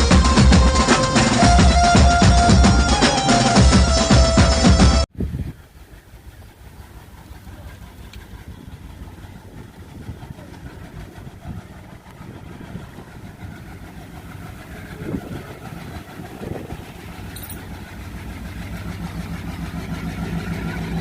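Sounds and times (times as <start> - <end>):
diesel locomotive engine throbbing: 0.0 - 21.0.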